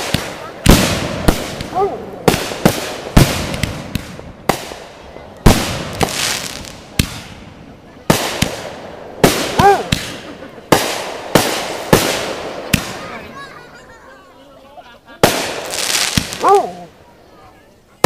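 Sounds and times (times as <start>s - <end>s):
fireworks bangs: 0.0s - 13.8s, 15.2s - 17.1s.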